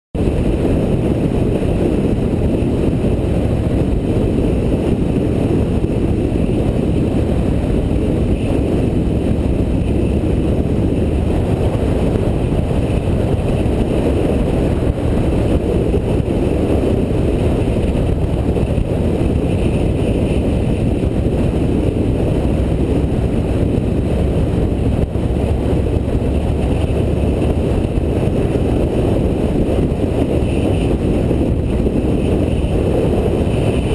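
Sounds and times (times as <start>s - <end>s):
motorcycle engine: 0.2s - 33.9s
road noise: 0.2s - 33.9s
wind rush on microphone: 0.2s - 33.9s.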